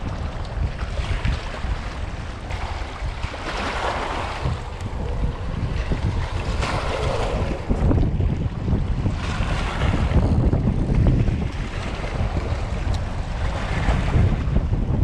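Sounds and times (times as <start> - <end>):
waves splashing against rocks: 0.0 - 15.0
wind buffeting microphone: 0.0 - 15.0.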